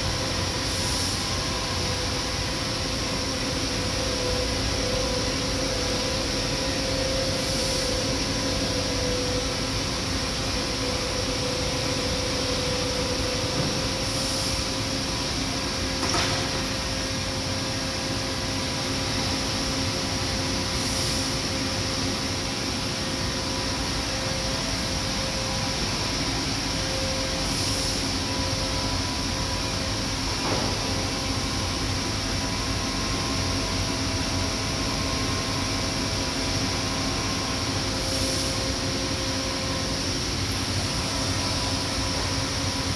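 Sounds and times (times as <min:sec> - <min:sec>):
factory machinery drone: 0:00.0 - 0:42.9.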